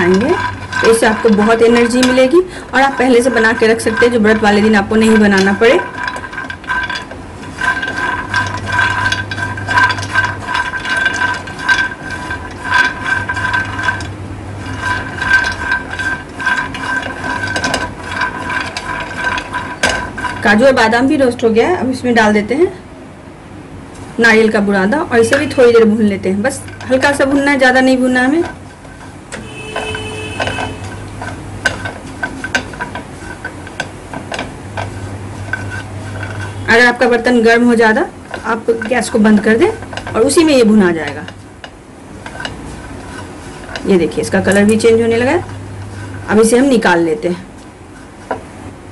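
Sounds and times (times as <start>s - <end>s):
nuts clattering in frying pan: 0.0s - 21.8s, 24.5s - 48.6s
low steady hum: 0.0s - 48.9s.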